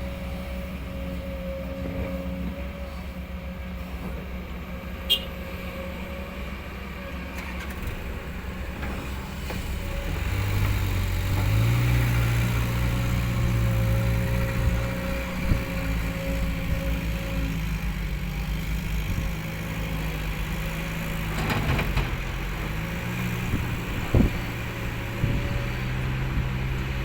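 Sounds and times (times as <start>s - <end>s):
diesel engine running and revving: 0.0s - 27.0s.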